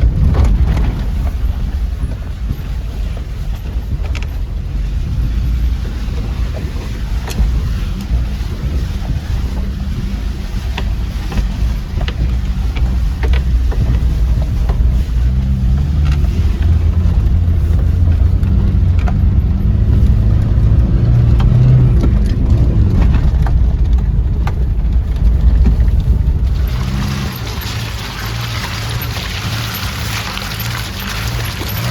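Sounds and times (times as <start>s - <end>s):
vehicle engine running under load: 0.0s - 31.9s
vehicle knocks and clatter: 0.0s - 31.9s.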